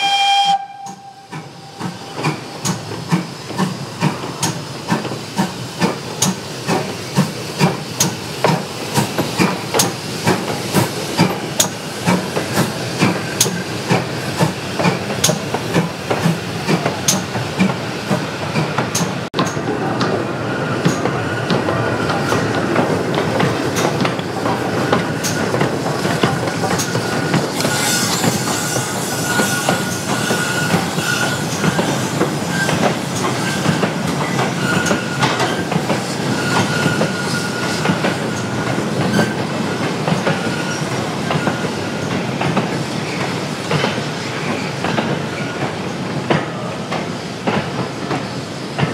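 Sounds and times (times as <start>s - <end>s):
steam hiss: 0.0s - 19.2s, 23.3s - 48.9s
steam locomotive chuffing: 0.0s - 48.9s.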